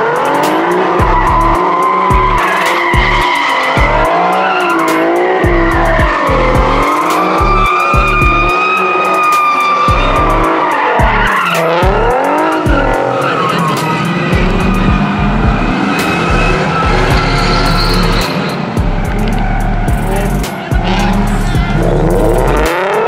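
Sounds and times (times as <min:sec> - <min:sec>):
car engine revving: 0:00.0 - 0:23.0
music with heavy bass beat: 0:00.0 - 0:23.0
tires squealing: 0:00.0 - 0:23.0.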